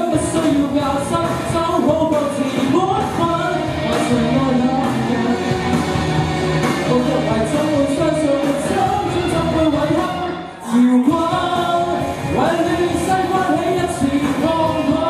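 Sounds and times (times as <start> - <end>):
man singing pop song: 0.0 - 15.0
recorded backing track: 0.0 - 15.0.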